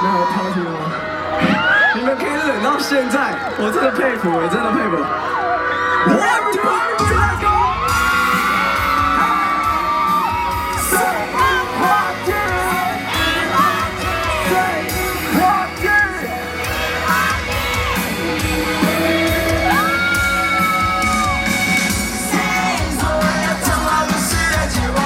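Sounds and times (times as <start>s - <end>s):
fans screaming and whooping: 0.0s - 25.0s
live pop band playing: 0.0s - 25.0s.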